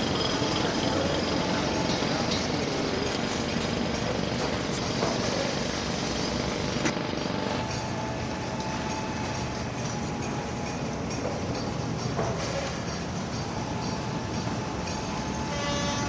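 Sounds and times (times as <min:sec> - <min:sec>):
construction site din: 0:00.0 - 0:16.0.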